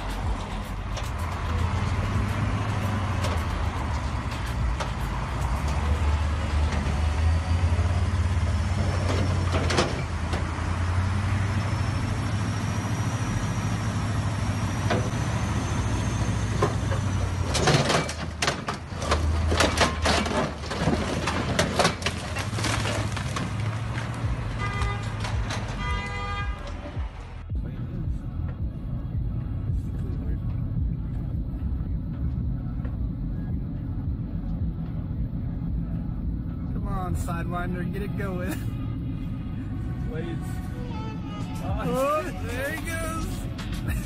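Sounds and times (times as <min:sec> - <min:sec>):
crane engine droning: 0:00.0 - 0:25.8, 0:26.8 - 0:44.0.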